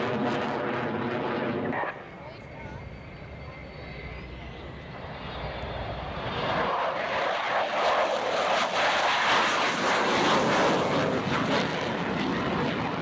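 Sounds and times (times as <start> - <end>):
airplane flying past: 0.0 - 13.0.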